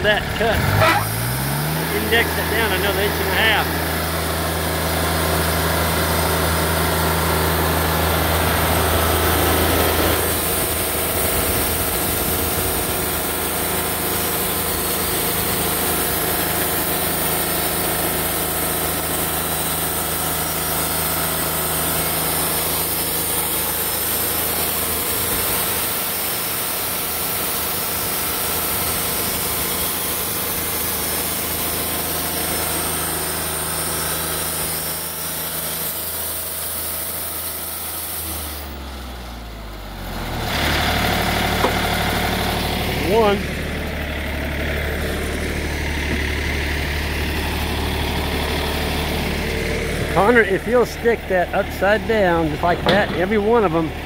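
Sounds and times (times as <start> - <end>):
band saw cutting wood: 0.0 - 38.8, 40.5 - 54.0
sawmill engine running under load: 0.0 - 54.0.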